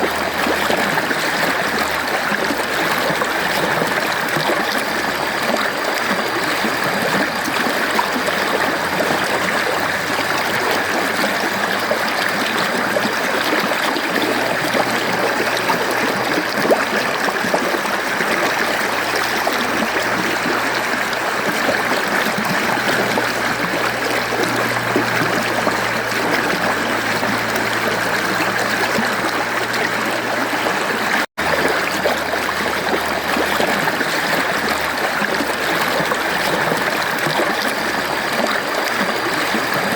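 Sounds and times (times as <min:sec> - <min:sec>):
stream water gurgling over rocks: 0:00.0 - 0:39.9.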